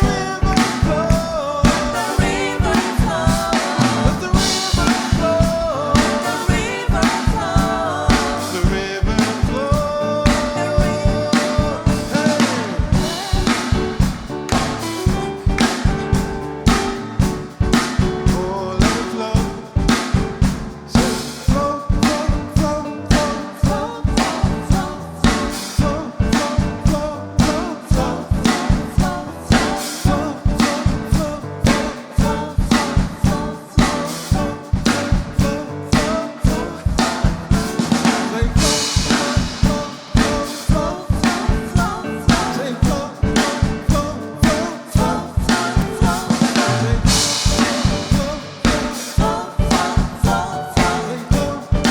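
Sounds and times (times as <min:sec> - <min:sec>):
drum kit beat: 0:00.0 - 0:51.9
live worship band music: 0:00.0 - 0:51.9.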